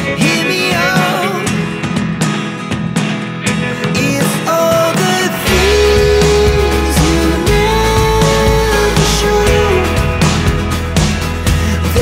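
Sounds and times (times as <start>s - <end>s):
pop backing track over loudspeaker: 0.0s - 12.0s.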